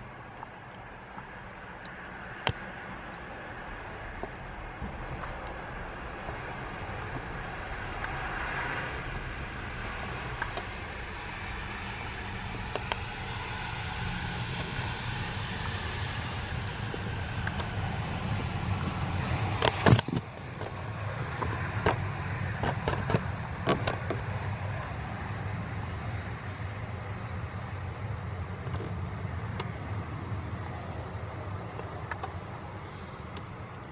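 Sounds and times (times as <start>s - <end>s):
low rumble: 0.0s - 33.8s
distant jet engine hiss: 0.0s - 33.9s.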